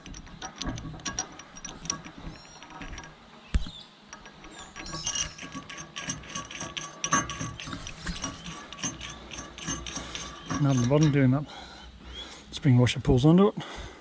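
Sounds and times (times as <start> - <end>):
metal clicking and clinking: 0.0 - 11.3.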